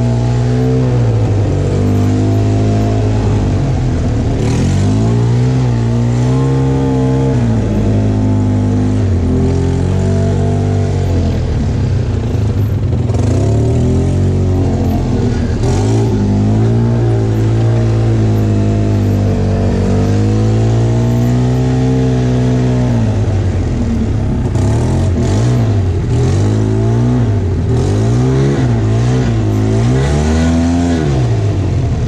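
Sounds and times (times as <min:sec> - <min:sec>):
atv engine revving: 0:00.0 - 0:32.0.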